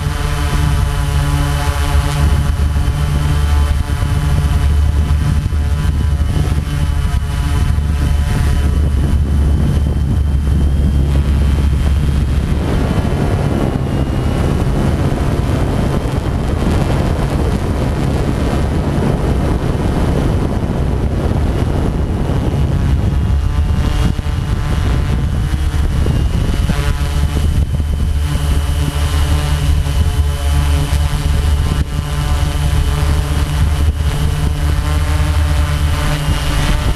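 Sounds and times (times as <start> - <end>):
drone propellers humming: 0.0 - 36.9
wind on microphone: 0.0 - 36.9.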